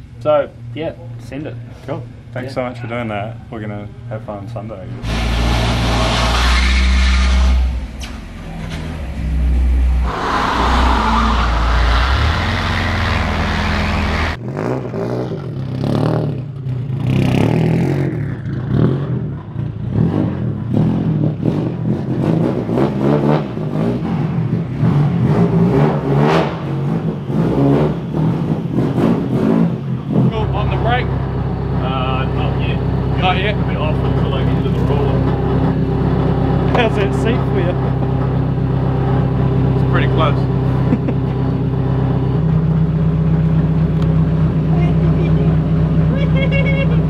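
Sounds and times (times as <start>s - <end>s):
engine droning on dyno: 0.0s - 46.6s
car engine idling and revving: 0.0s - 47.0s.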